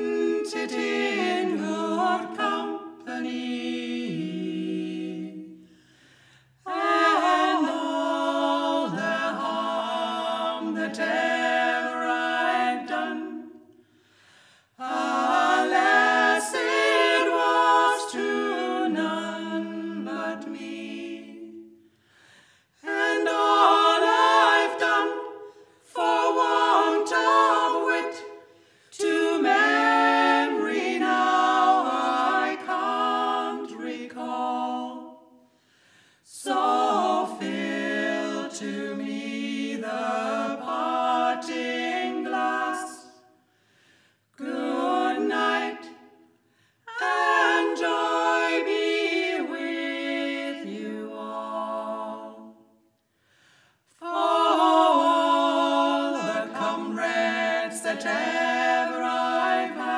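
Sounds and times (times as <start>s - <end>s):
a cappella quartet singing: 0.0s - 59.9s.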